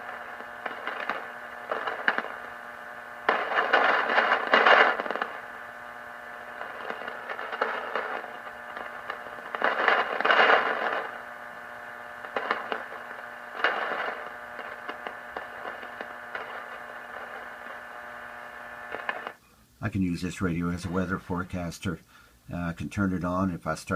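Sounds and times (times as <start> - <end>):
lightning static crackling bursts: 0.0 - 22.0
radio static hiss: 0.0 - 23.9.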